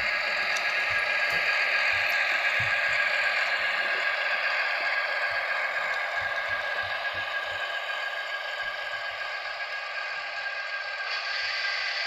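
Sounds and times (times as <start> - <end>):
diesel engine sound from tiny speaker: 0.0 - 12.0.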